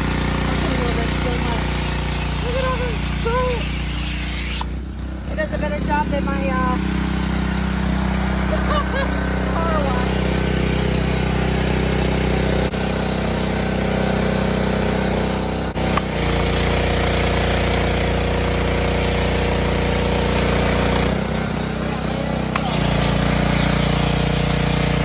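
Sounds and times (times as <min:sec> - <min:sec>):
pressure washer motor hum: 0:00.0 - 0:25.0.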